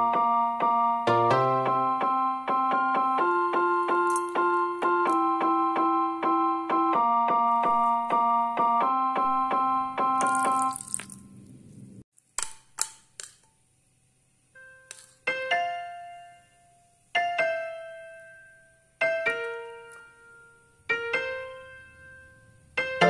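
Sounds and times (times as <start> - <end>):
slow piano notes: 0.0 - 10.7, 14.6 - 23.0.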